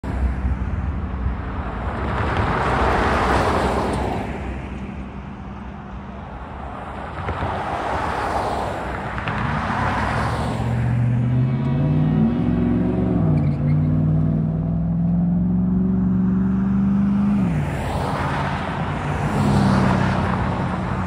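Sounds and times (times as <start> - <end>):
cars passing: 0.0 - 21.0
low traffic rumble: 0.0 - 21.0.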